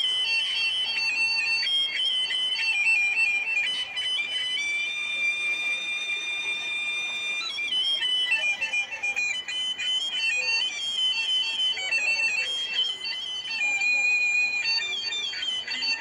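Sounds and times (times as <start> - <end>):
high reedy melody: 0.0 - 16.0.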